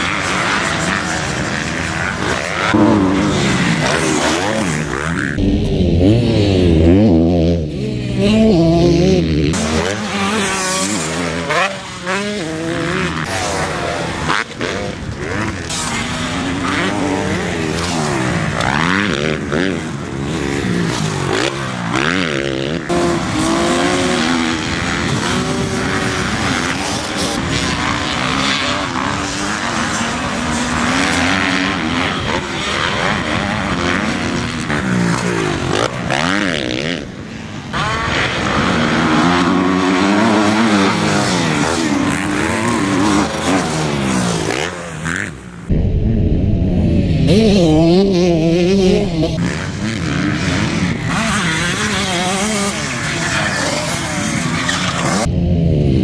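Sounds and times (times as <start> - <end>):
dirt bike engines racing: 0.0 - 45.8, 47.0 - 56.0.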